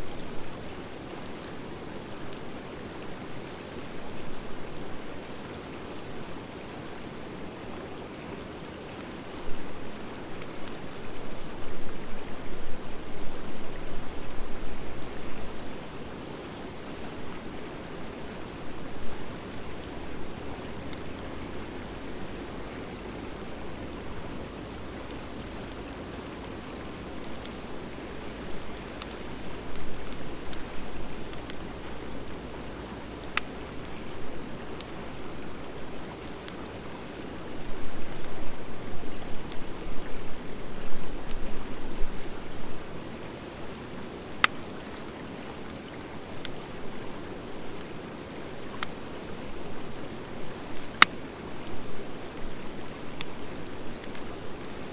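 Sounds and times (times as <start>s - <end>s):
wood fire crackling and popping: 0.1s - 13.1s, 15.1s - 54.9s.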